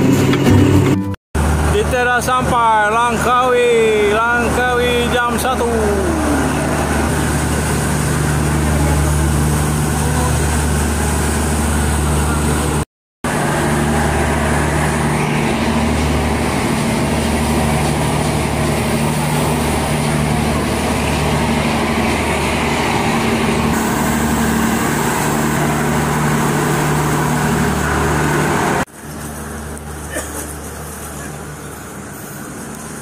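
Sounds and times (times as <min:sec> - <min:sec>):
pitched machinery hum: 0:00.0 - 0:33.0
ship engines droning: 0:00.0 - 0:33.0
outdoor background noise: 0:05.4 - 0:33.0.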